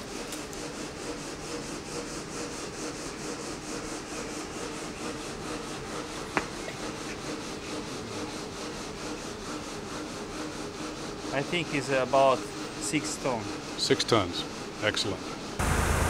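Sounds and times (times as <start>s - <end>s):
wire saw cutting marble: 0.0s - 15.6s.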